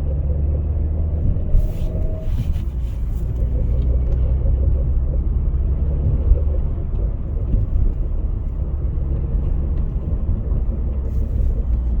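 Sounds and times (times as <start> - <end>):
car engine rumbling: 0.0 - 12.0
faint engine ticking: 0.0 - 12.0.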